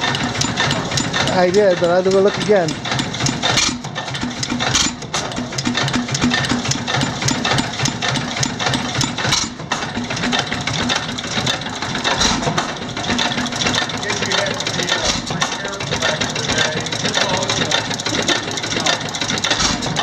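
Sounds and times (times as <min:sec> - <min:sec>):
gas engine running: 0:00.0 - 0:20.0
rapid clatter of clicks and knocks: 0:00.0 - 0:20.0.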